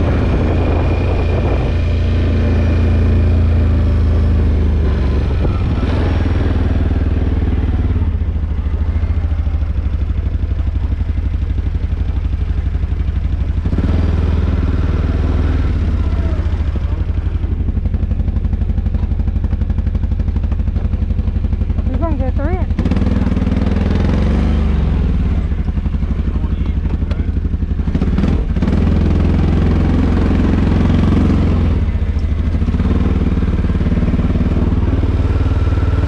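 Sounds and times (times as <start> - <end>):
quad bike engine droning: 0.0 - 36.0.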